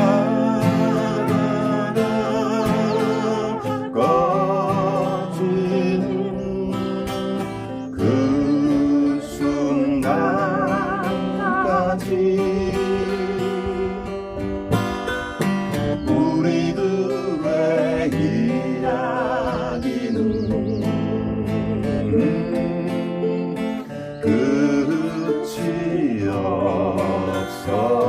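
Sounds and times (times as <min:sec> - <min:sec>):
person singing with vibrato: 0:00.0 - 0:14.4, 0:16.0 - 0:28.0
acoustic guitar strumming: 0:00.0 - 0:28.0
ukulele strumming: 0:00.0 - 0:28.0.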